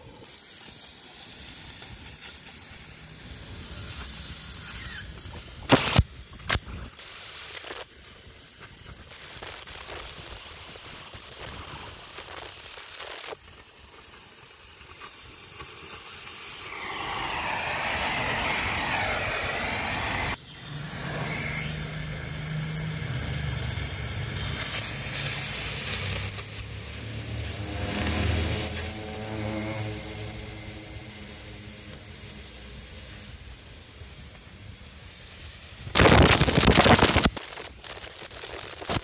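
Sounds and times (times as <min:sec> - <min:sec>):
cutting torch hissing: 0:00.0 - 0:39.0.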